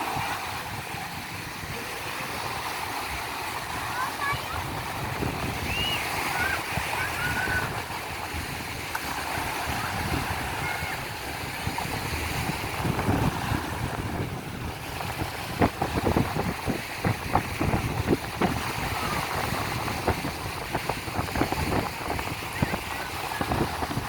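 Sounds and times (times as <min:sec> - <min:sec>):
sea surf washing on beach: 0:00.0 - 0:24.0
wind buffeting microphone: 0:00.0 - 0:24.0.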